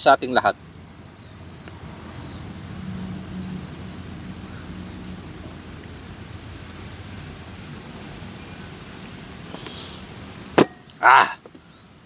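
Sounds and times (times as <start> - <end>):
low outdoor rumble: 0.0 - 11.7.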